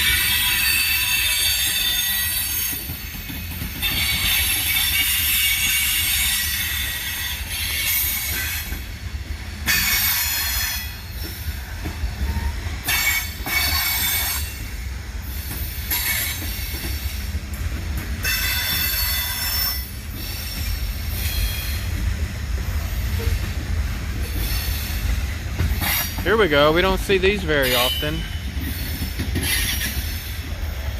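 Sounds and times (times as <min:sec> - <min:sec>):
freight train rumbling past: 0:00.0 - 0:30.9.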